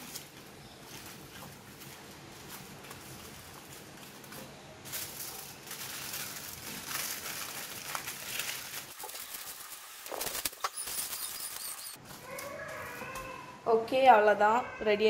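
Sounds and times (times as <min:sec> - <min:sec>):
aluminium foil crinkling: 0:00.0 - 0:13.4.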